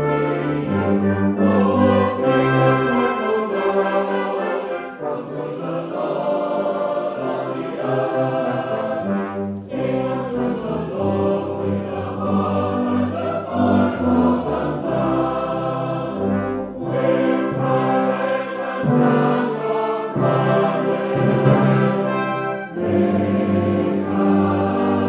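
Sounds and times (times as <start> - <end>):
brass band playing: 0.0 - 25.0
mixed choir singing: 0.0 - 25.0.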